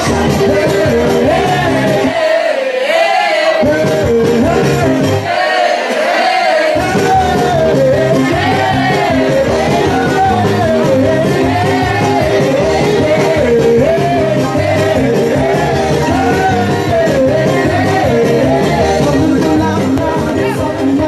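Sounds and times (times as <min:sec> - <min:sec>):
loud dance music with vocal: 0:00.0 - 0:21.0.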